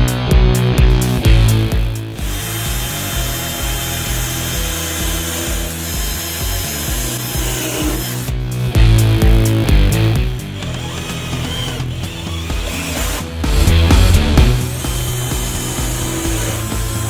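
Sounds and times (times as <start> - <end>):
background music: 0.0 - 17.0
chainsaw cutting wood: 0.1 - 17.0.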